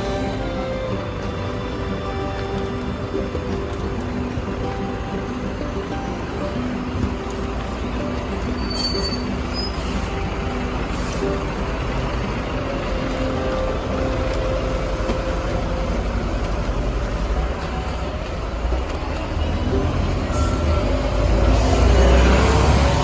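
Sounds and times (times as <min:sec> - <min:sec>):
large vehicle engine rumble: 0:00.0 - 0:23.0
street traffic noise: 0:00.0 - 0:23.0.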